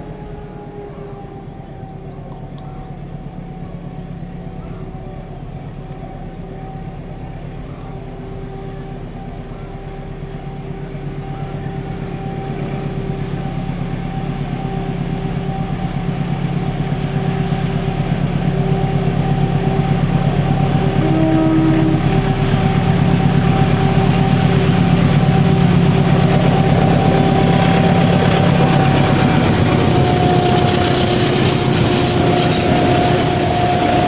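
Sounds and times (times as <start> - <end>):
diesel locomotive engine drone: 0.0 - 34.0
steady whine: 0.0 - 34.0.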